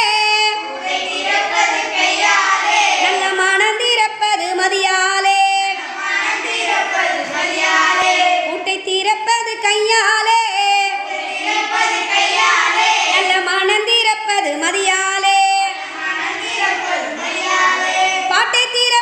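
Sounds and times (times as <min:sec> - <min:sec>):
children singing: 0:00.0 - 0:08.8, 0:10.0 - 0:13.9, 0:14.6 - 0:19.0.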